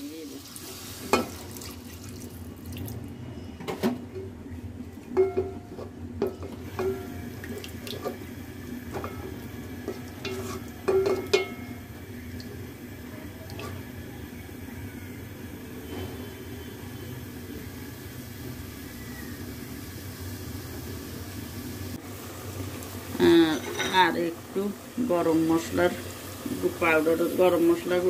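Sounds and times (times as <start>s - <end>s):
low background hum: 1.0s - 28.0s.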